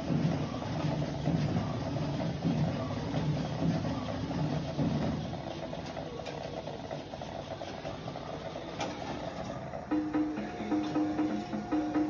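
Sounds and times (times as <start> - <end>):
machine mechanism humming: 0.0 - 12.0.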